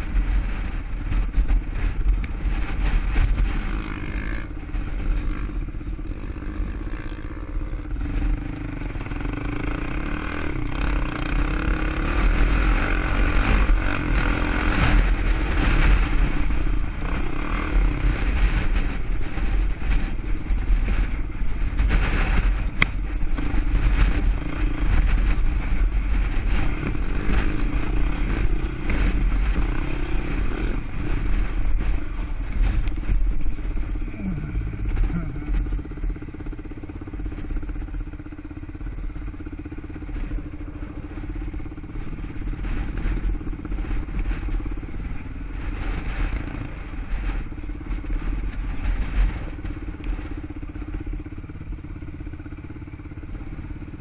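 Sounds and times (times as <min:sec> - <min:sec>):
atv engine rumbling: 0:00.0 - 0:54.0.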